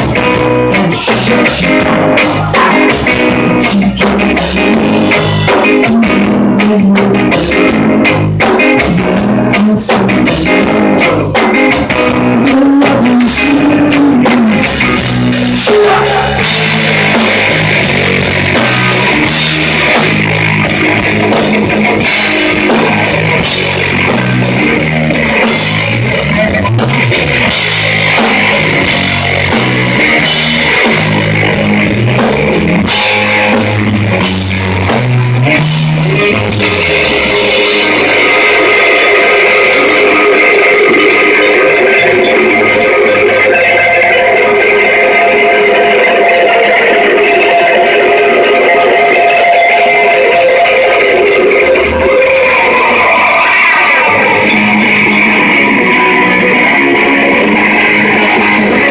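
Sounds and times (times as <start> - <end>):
low bass line: 0.0 - 53.1
drum kit: 0.0 - 58.9
electric guitar through amplifier: 0.0 - 58.9.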